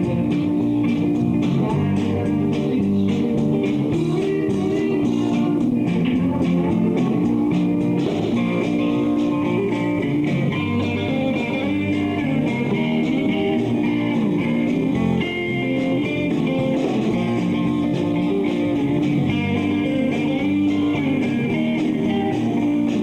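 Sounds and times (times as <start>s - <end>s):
bass and drums: 0.0s - 23.0s
electric guitar: 0.0s - 23.0s.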